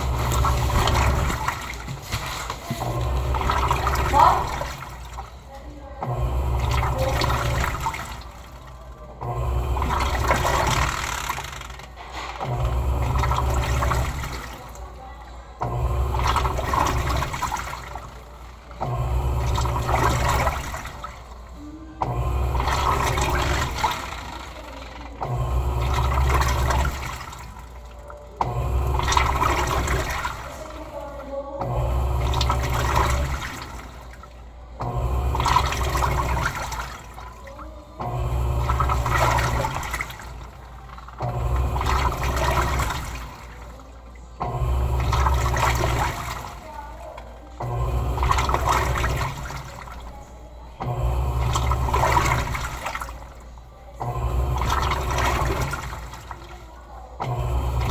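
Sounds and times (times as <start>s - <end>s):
washing machine agitating: 0.0s - 57.9s
water and clothes sloshing: 0.0s - 57.9s.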